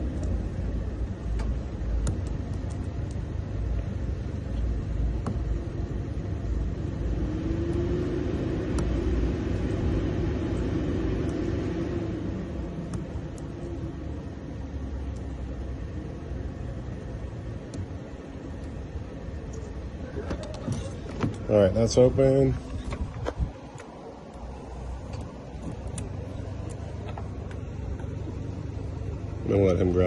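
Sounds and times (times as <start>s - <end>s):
faint hum: 0.0s - 30.0s
steady low rumble: 0.0s - 30.0s.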